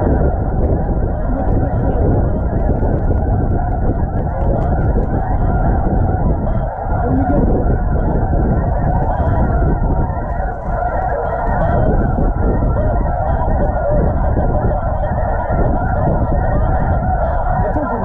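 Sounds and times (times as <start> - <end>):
snow geese honking: 0.0 - 18.0.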